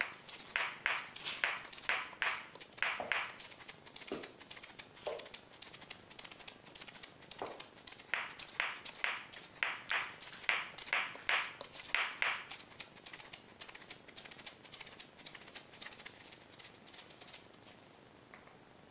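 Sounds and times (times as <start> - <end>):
maracas shaking: 0.0 - 17.9.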